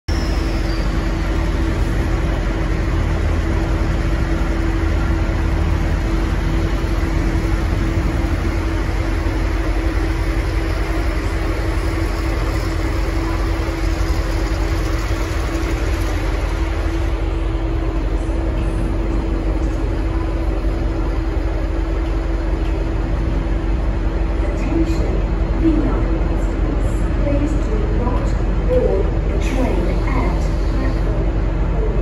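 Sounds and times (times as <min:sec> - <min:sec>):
diesel locomotive engine rumbling: 0:00.0 - 0:32.0.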